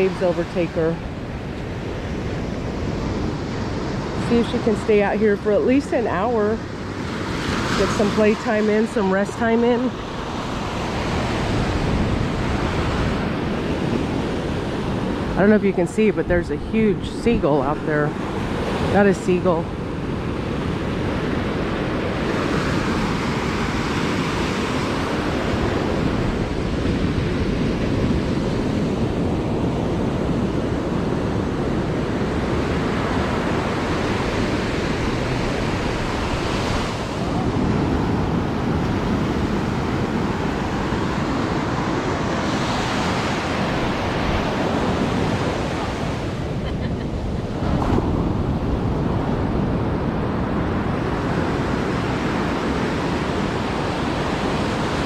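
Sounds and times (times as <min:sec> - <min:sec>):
ocean waves breaking: 0:00.0 - 0:55.0
wind rumbling on microphone: 0:00.0 - 0:55.0.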